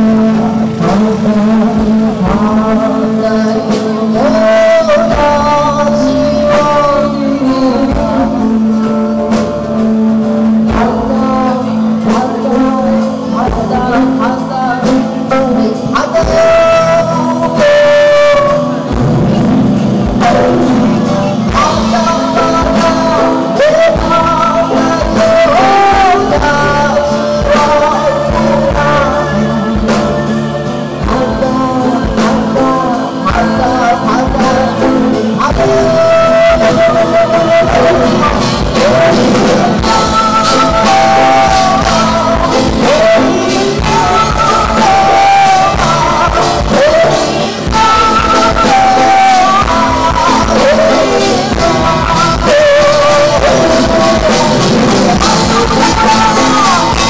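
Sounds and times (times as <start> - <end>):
acoustic guitar: 0.0 - 57.0
drums: 0.0 - 57.0
keyboard: 0.0 - 57.0
woman singing: 0.0 - 57.0.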